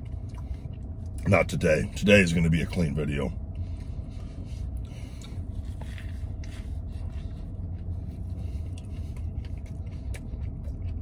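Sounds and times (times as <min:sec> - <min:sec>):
man chewing a sandwich: 0:00.0 - 0:02.8, 0:03.4 - 0:11.0
vehicle idling rumble: 0:00.0 - 0:11.0.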